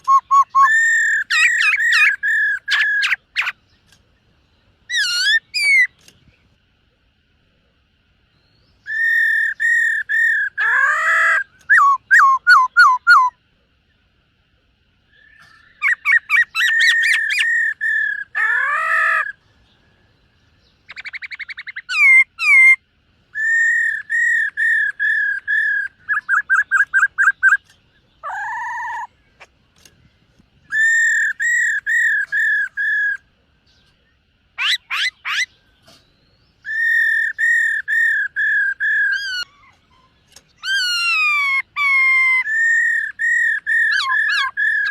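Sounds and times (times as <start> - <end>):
bird singing whistled notes: 0.0 - 6.5, 8.3 - 14.0, 15.0 - 44.9.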